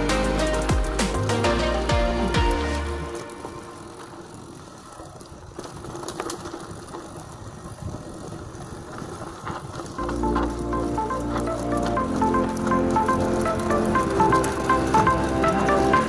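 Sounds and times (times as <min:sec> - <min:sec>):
bike rattling and knocking: 0:00.0 - 0:16.0
bike tyres rolling over gravel: 0:00.0 - 0:16.0.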